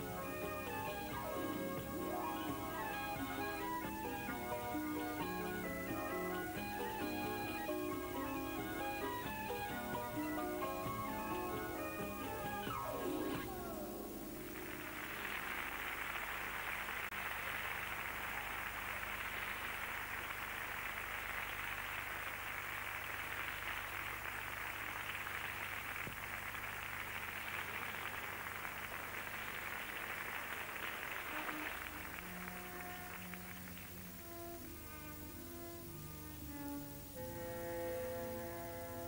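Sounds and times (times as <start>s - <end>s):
steady static hiss: 0.0s - 39.0s.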